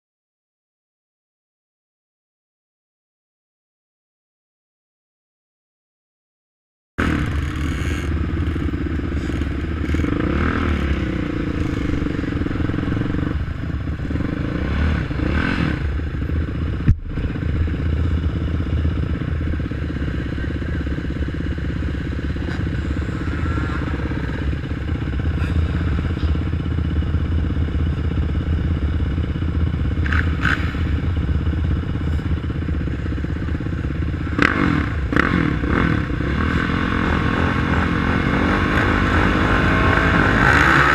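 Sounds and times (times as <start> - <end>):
quad bike engines revving: 7.0 - 40.9.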